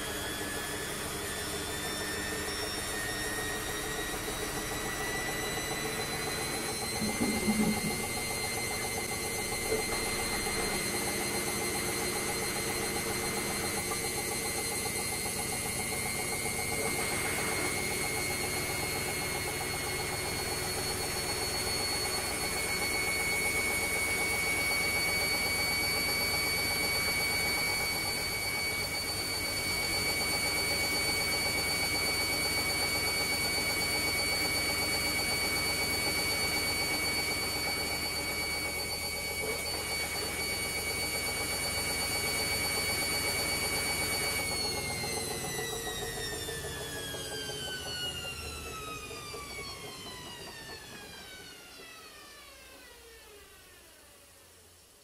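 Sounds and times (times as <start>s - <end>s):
washing machine spin whine: 0.0s - 55.0s.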